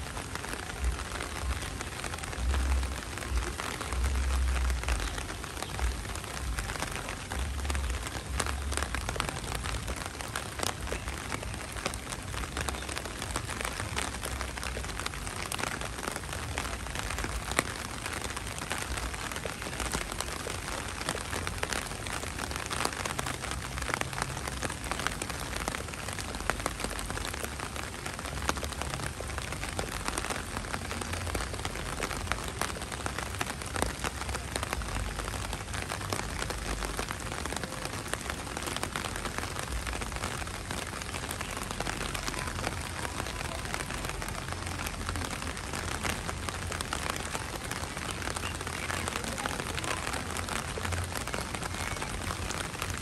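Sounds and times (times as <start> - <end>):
heavy rain: 0.0 - 53.0
raindrops ticking close by: 0.0 - 53.0.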